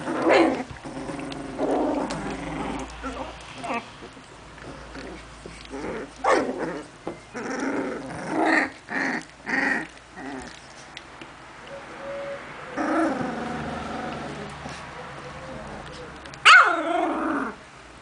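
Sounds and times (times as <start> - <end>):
puppies growling and yelping: 0.0 - 17.8.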